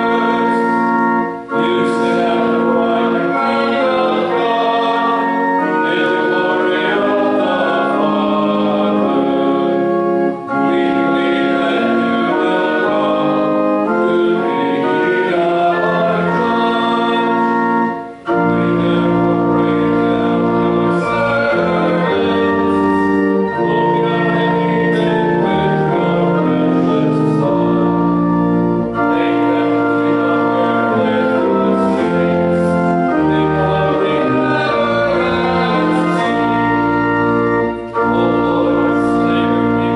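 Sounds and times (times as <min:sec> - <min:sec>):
church organ playing a hymn: 0:00.0 - 0:39.9.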